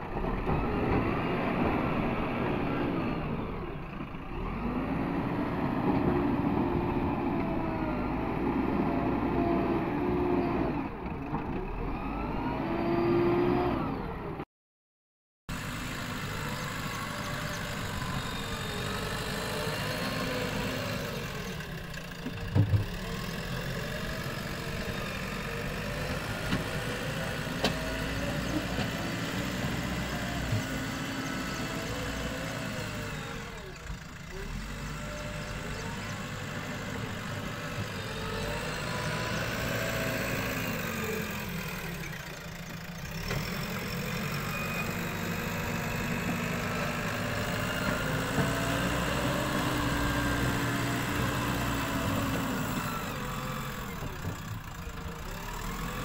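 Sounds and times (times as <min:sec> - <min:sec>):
diesel engine revving: 0:00.0 - 0:14.4, 0:15.5 - 0:56.0.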